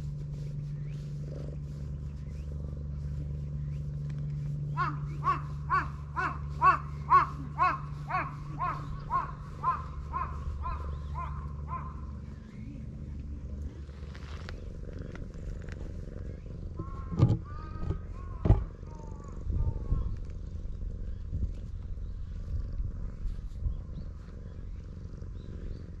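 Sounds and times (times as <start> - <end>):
cat purring: 0.0 - 5.8, 6.6 - 26.0
bird calls: 0.5 - 15.2, 16.1 - 22.6.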